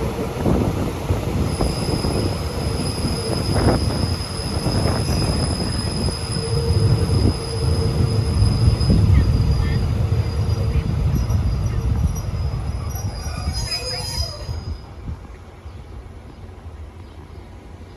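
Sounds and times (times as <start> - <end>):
train rumbling on rails: 0.0 - 17.9.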